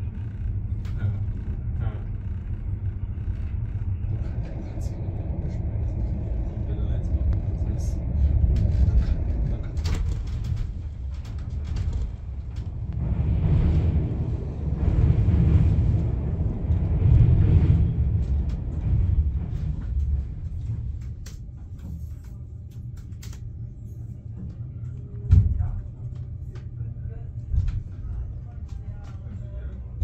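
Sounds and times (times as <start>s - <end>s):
train coach rumble: 0.0s - 30.0s.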